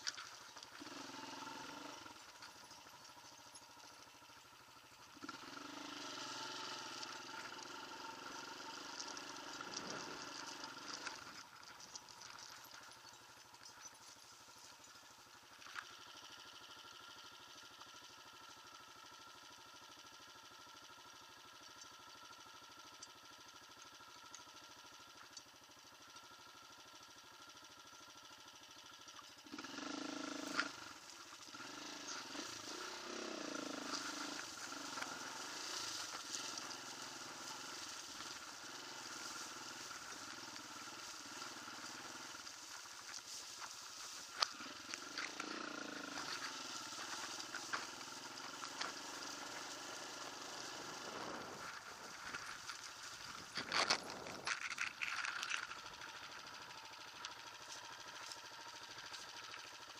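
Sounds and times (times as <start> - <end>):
off-road motorcycle engine running: 0.0 - 59.9.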